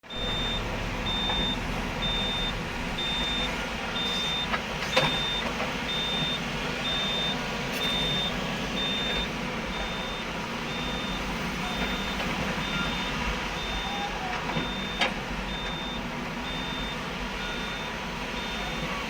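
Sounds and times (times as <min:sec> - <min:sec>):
diesel engine rumble: 0:00.0 - 0:19.0
reversing alarm beeping: 0:00.0 - 0:19.0.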